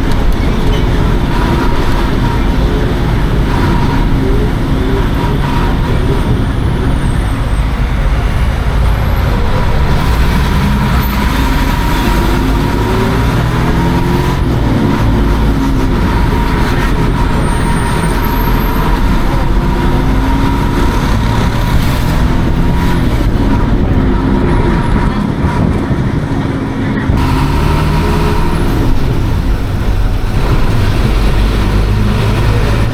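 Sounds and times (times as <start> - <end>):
bus diesel engine running: 0.0 - 32.9
road rumble: 0.0 - 32.9.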